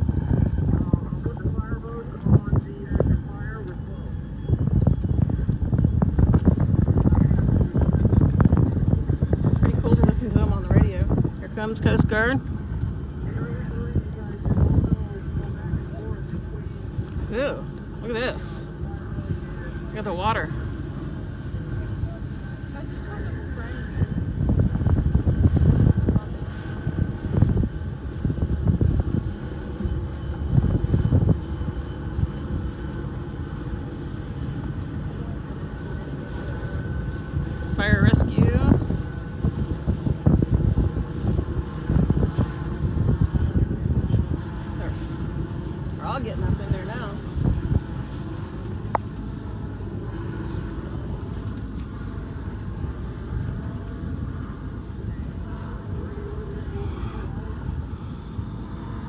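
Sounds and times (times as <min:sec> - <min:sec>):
boat motors rumbling: 0:00.0 - 0:59.0
engine drone: 0:00.0 - 0:59.0
wind buffeting microphone: 0:00.0 - 0:59.0.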